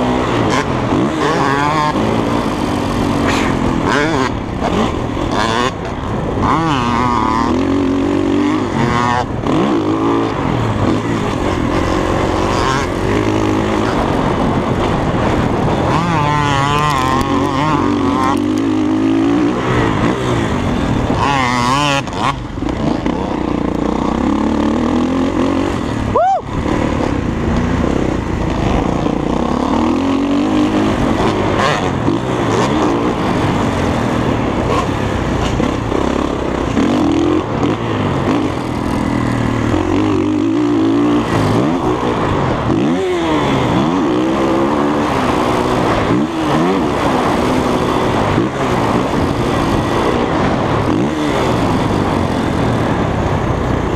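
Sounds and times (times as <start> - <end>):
constant rushing noise: 0.0 - 53.9
dirt bike engine revving: 0.0 - 53.9.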